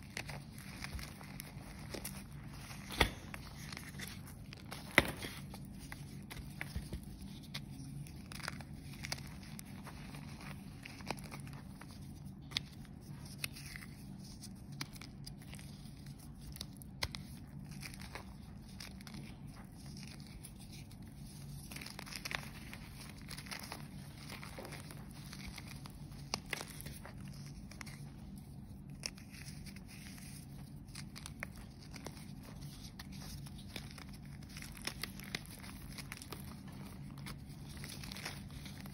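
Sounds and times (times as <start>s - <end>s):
chalk crunching and crumbling: 0.0s - 38.9s.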